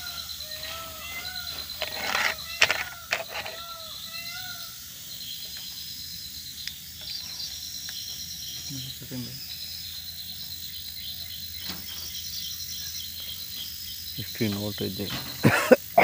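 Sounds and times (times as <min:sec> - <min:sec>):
high pulsing insect trill: 0:00.0 - 0:16.0.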